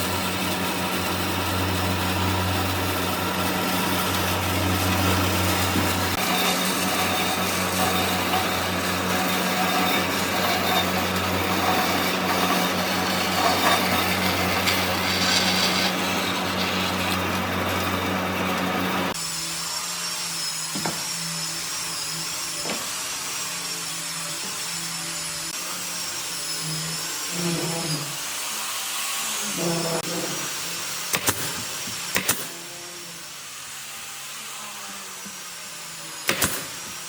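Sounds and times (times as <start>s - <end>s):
power tool cutting wood: 0.0s - 37.0s
power tool high whine: 0.0s - 37.0s.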